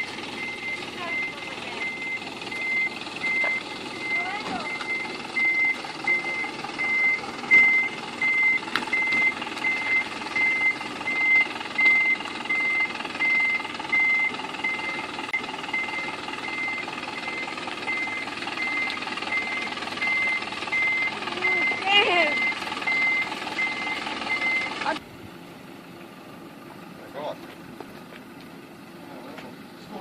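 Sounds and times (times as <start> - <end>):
reversing alarm beeping: 0.0 - 25.0
engine running: 0.0 - 30.0.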